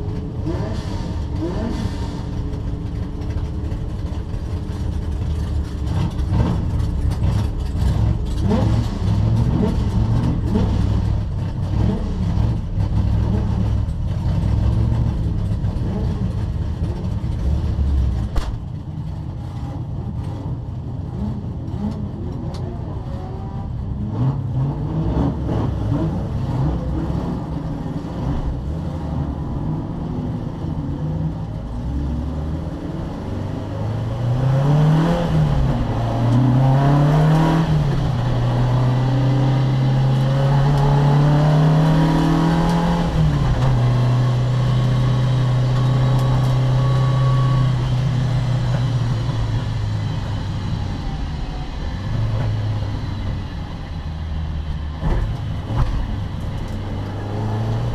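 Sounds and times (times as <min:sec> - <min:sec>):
racing car engine revving: 0:00.0 - 0:18.4, 0:19.4 - 0:51.1, 0:54.6 - 0:57.9.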